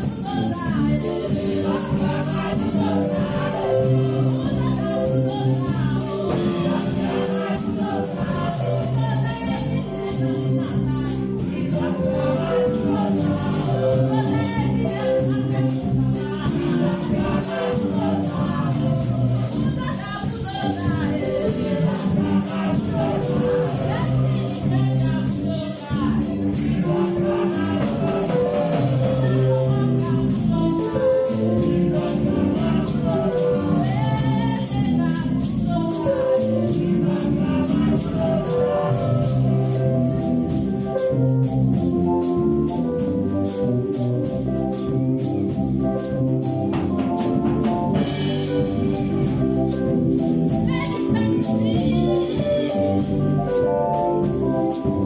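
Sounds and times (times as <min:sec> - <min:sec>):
gospel choir singing: 0:00.0 - 0:55.0
instrumental backing: 0:00.0 - 0:55.0
shaken percussion: 0:00.0 - 0:55.0.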